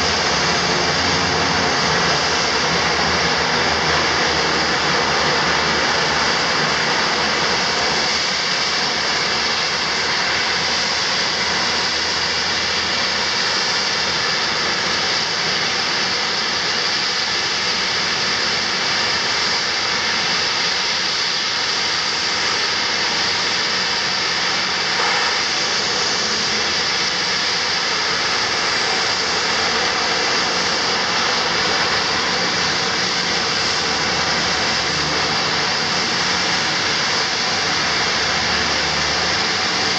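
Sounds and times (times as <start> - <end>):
rushing noise: 0.0 - 39.9
turboprop engines whining: 0.0 - 39.9.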